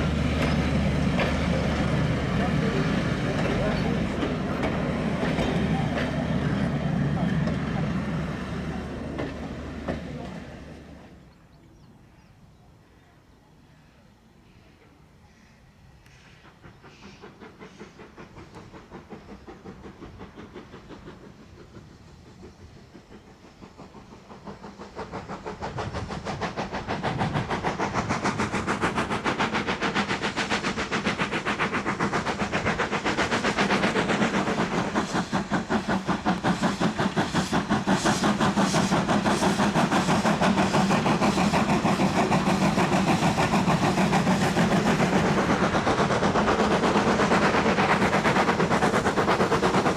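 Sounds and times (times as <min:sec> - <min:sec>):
steam locomotive exhaust chuffs: 0:00.0 - 0:11.4, 0:14.3 - 0:49.9.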